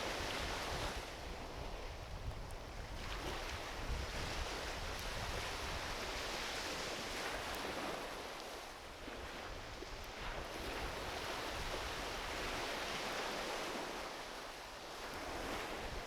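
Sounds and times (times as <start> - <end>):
ocean waves washing on beach: 0.0 - 16.0.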